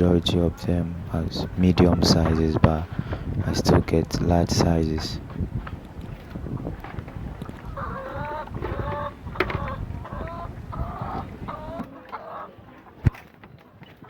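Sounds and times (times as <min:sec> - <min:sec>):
hens clucking: 0:00.0 - 0:13.2.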